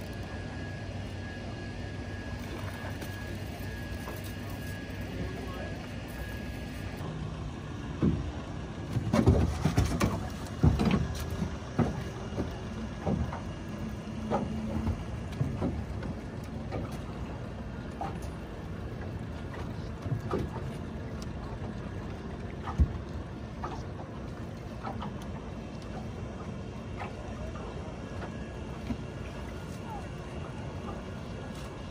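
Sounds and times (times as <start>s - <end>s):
boat engine humming: 0.0s - 31.9s.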